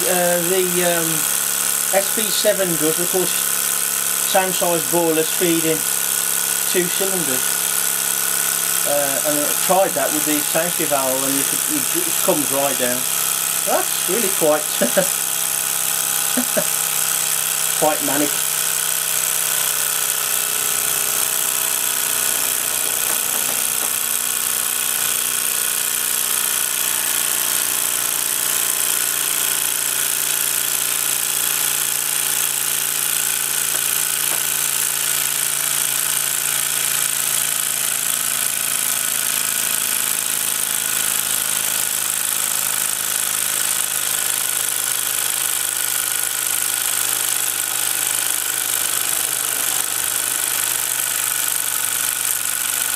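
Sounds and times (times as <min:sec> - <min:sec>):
toy steam engine chattering: 0:00.0 - 0:52.9.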